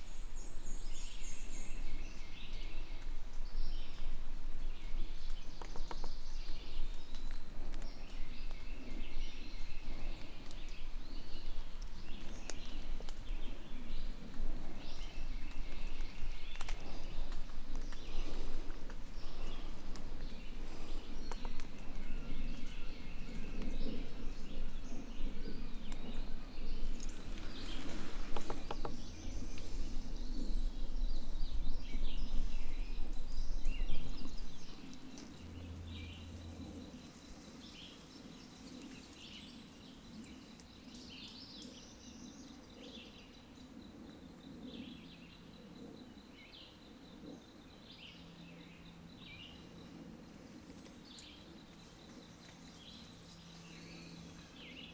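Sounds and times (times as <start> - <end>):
songbirds chirping: 0.0 - 54.9
faint high hum: 6.3 - 54.9.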